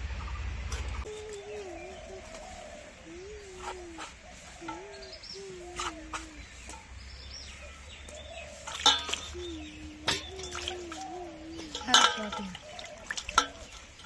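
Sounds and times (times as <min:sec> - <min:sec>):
dove cooing: 0:01.0 - 0:06.7, 0:07.5 - 0:14.0.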